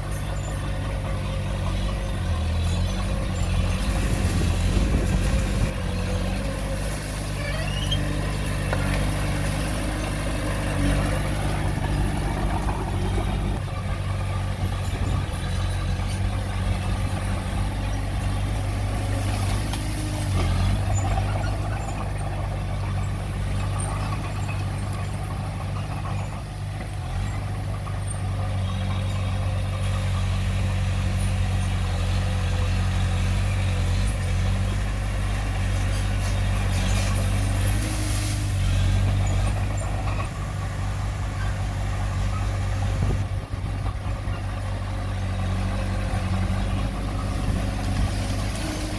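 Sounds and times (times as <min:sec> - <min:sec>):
heavy machinery engine droning: 0:00.0 - 0:48.9.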